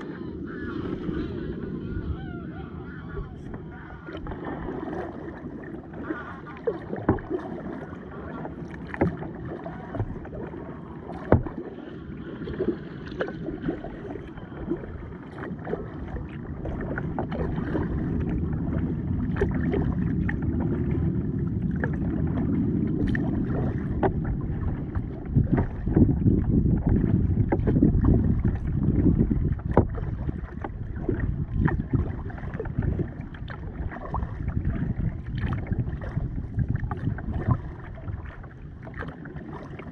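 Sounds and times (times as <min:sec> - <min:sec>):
low rushing water: 0:00.0 - 0:39.9
paddle splashing and knocking: 0:02.9 - 0:39.9.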